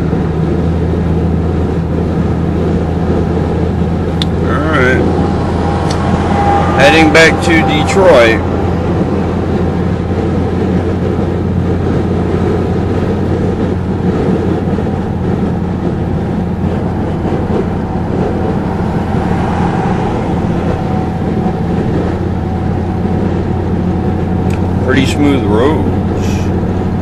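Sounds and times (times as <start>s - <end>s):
diesel engine cruising in cabin: 0.0s - 27.0s
tyre and wind noise: 0.0s - 27.0s.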